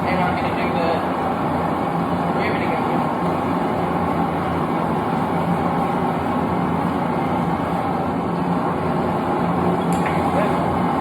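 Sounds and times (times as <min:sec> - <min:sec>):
gas forge burner rushing: 0:00.0 - 0:11.0.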